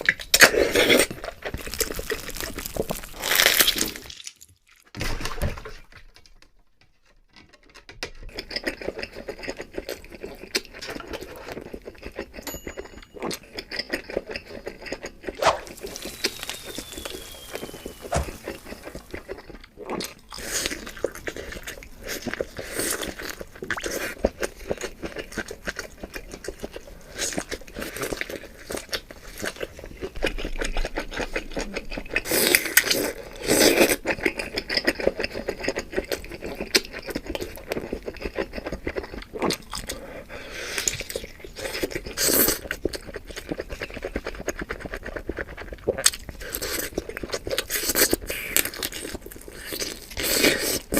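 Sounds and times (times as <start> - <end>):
person chewing and crunching: 0.0 - 4.9, 7.6 - 50.9.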